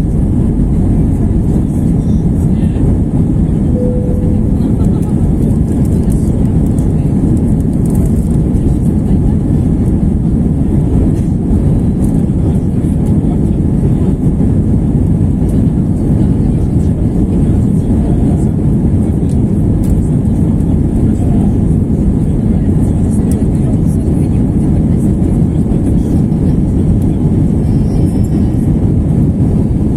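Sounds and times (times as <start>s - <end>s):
jet engines rumbling: 0.0s - 29.9s.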